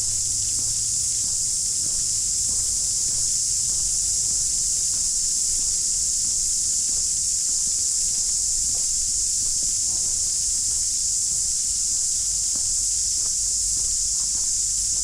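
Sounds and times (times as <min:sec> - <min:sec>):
faint footsteps on a path: 0:00.0 - 0:15.0
insects droning: 0:00.0 - 0:15.0.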